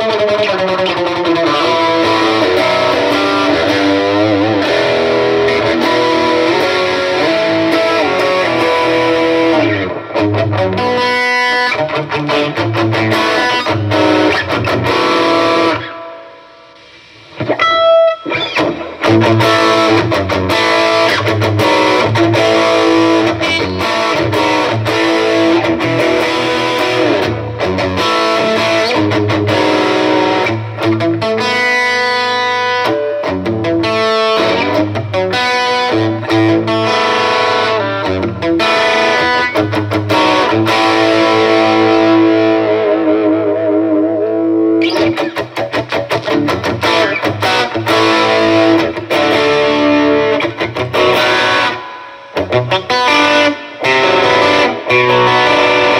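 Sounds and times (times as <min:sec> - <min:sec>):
electric guitar through amplifier: 0:00.0 - 0:55.9.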